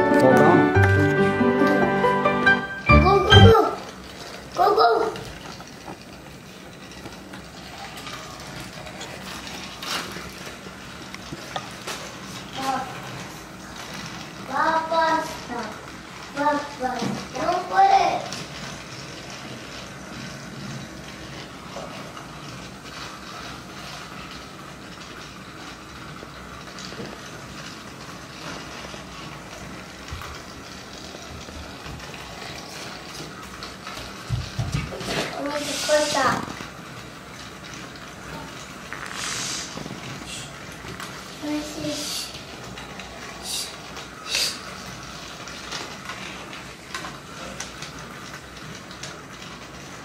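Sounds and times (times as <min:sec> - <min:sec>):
toy wheels clicking on track: 0:03.0 - 0:50.0
toy train motor whirring: 0:03.3 - 0:50.0.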